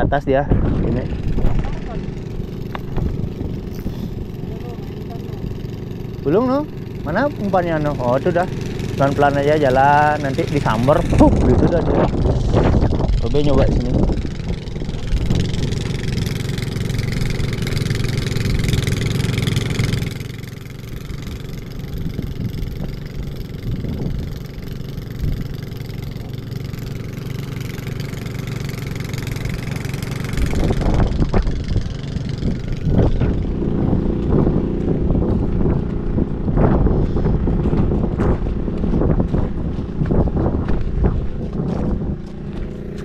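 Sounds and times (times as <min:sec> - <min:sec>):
wind buffeting microphone: 0:00.0 - 0:20.1, 0:20.8 - 0:43.0
motor engine running: 0:00.0 - 0:43.0.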